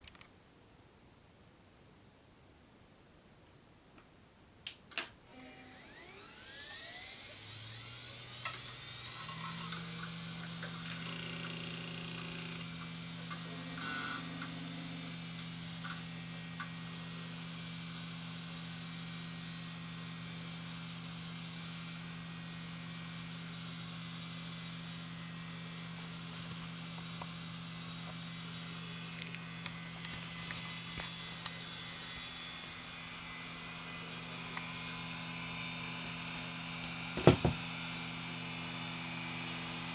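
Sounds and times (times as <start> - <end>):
hard drives spinning whine: 5.3 - 39.9.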